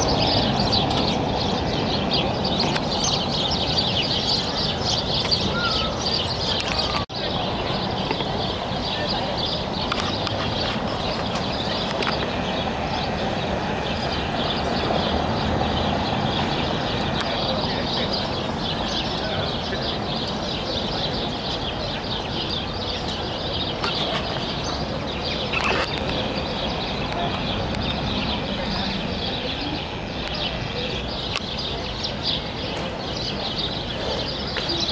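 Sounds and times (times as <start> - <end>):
distant chatter: 0.0 - 34.9
small birds chirping: 0.0 - 34.9
traffic: 0.0 - 34.9.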